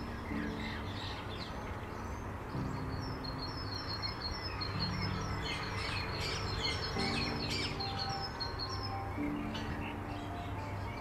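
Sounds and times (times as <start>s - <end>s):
small birds chirping: 0.0s - 11.0s
soft held music chords: 0.0s - 11.0s.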